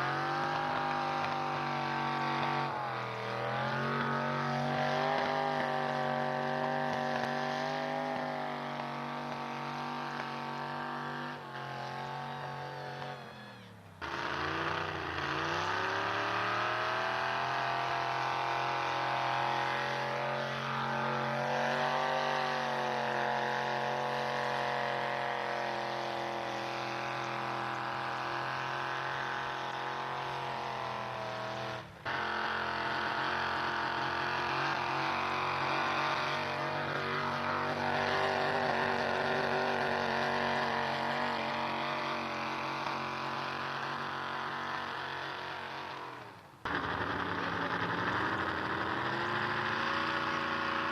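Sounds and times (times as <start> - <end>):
truck engine at high revs: 0.0 - 50.9.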